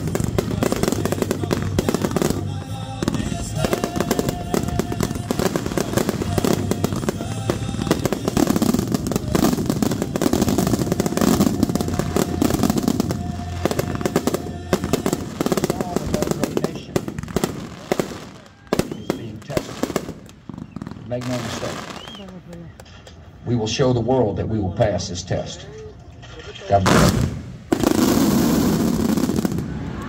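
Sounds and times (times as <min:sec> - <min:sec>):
fireworks bangs and crackles: 0:00.0 - 0:22.9, 0:26.7 - 0:30.0.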